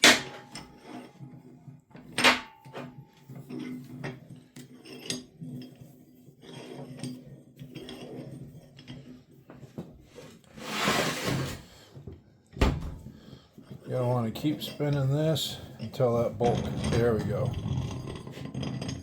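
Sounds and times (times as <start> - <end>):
metal scraping rub: 0.0 - 12.0, 13.0 - 19.0.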